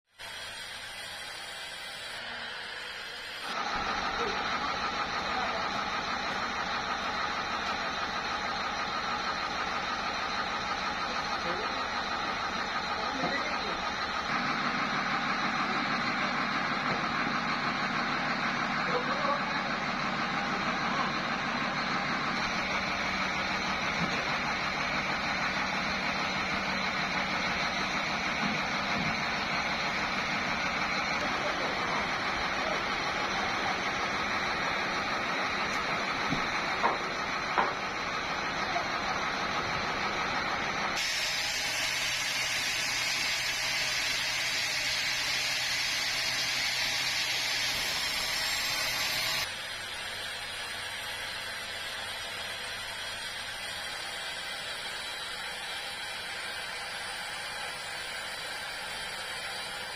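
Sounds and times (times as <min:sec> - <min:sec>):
sawmill machinery running: 0:00.1 - 0:59.9.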